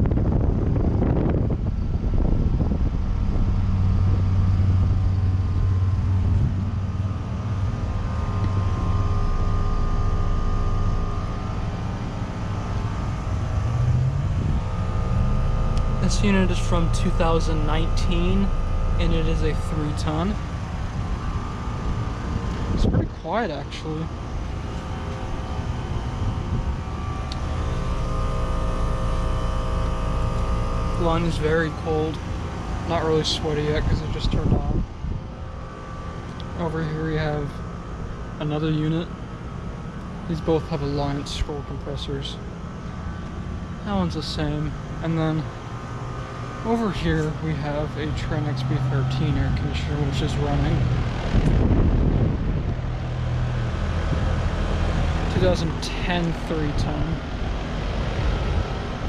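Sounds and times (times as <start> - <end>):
compressor humming: 0.0 - 59.0
fan whooshing: 0.0 - 59.0.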